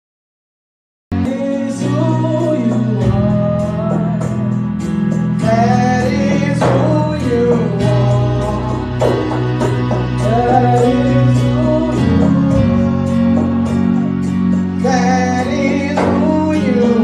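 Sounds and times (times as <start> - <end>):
gospel singing with guitar: 1.1 - 17.0.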